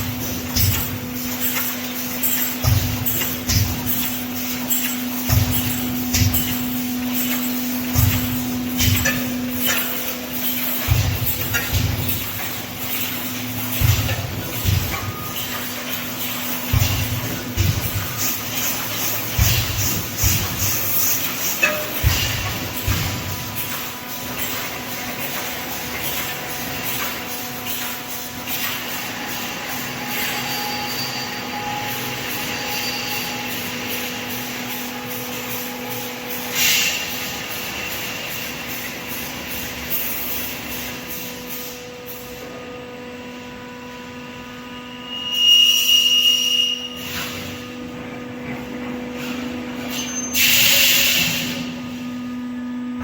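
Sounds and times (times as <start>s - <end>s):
welding machine humming: 0.0s - 44.7s.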